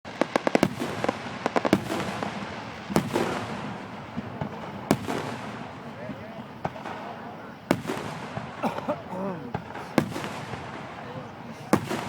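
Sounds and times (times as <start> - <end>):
fireworks crackling pops: 0.1 - 12.0
loud firework bursts: 0.1 - 12.0.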